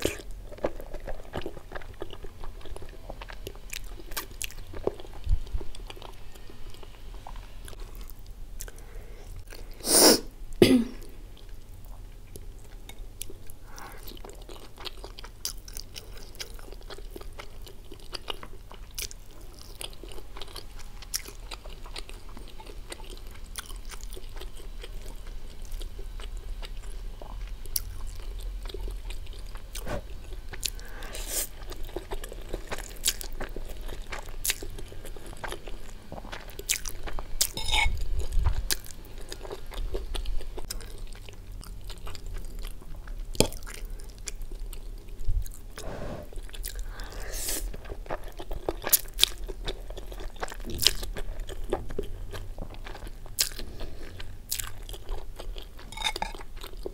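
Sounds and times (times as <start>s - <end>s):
close chewing with wet mouth clicks: 0.0s - 6.0s, 11.4s - 30.8s, 31.6s - 45.6s, 46.4s - 56.9s.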